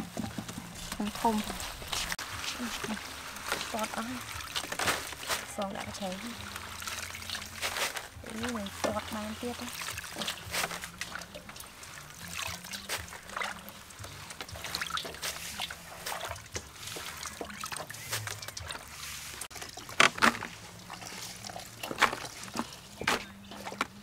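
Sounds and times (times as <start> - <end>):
hands swishing food in water: 0.0 - 24.0
water sloshing: 0.0 - 24.0
water splashes and drips: 0.0 - 24.0.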